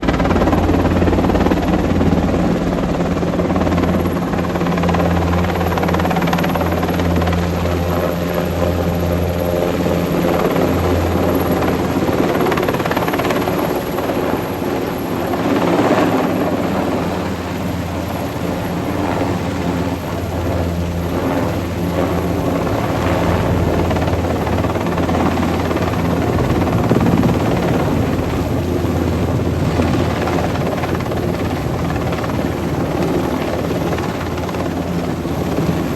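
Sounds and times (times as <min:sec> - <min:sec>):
helicopter rotor and engine: 0:00.0 - 0:35.9.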